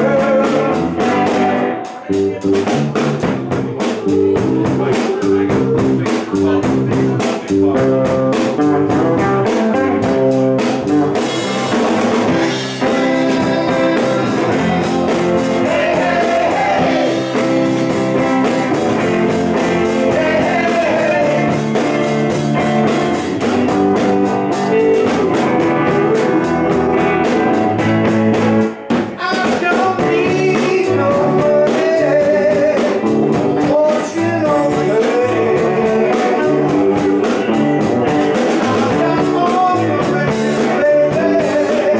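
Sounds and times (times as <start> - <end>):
live blues-rock band: 0.0 - 41.9.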